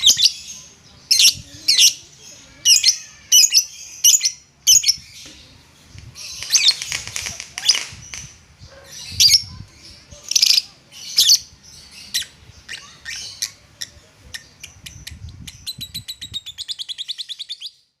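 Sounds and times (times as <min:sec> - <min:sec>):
lovebird squawking and chirping: 0:00.0 - 0:05.2, 0:06.2 - 0:17.8.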